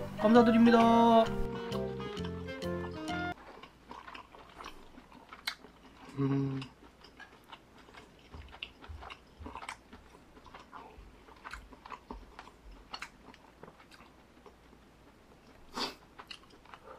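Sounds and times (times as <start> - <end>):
chewing and biting: 2.2 - 16.9.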